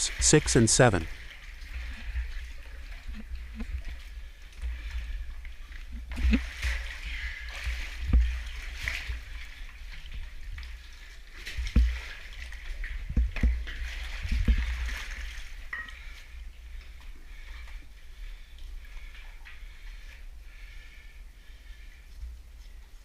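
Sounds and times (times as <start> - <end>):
stream water running and splashing: 0.0 - 21.1.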